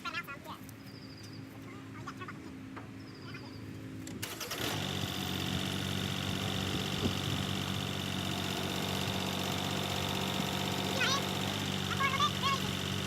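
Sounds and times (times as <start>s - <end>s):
engine running: 0.6s - 13.0s.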